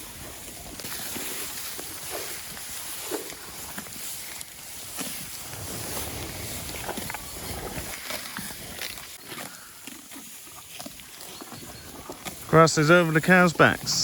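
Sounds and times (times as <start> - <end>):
grass rustling: 0.0 - 14.0.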